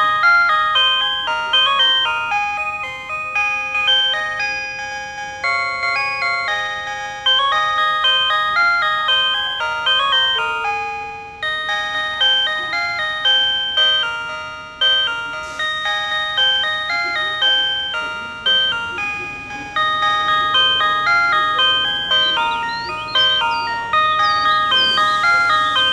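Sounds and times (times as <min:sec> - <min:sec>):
electronic chime melody: 0:00.0 - 0:25.9.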